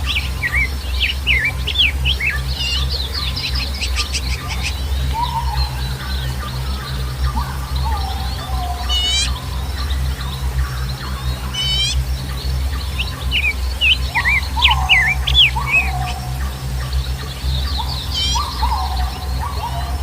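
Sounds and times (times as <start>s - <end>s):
birds whistling: 0.0s - 20.0s
high bird chirps: 0.0s - 20.0s
low gliding bird calls: 0.0s - 20.0s
steady low rumble: 0.0s - 20.0s.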